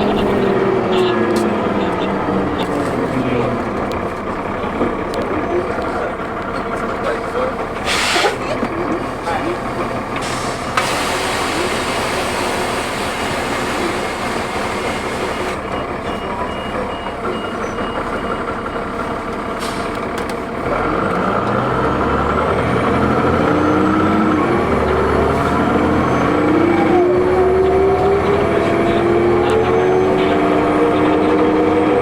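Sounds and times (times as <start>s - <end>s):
bus diesel engine accelerating: 0.0s - 32.0s.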